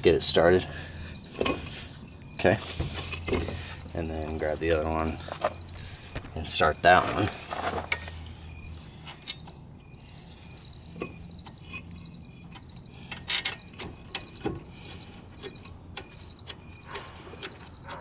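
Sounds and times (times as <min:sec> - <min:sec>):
high chirping: 0:00.2 - 0:18.0.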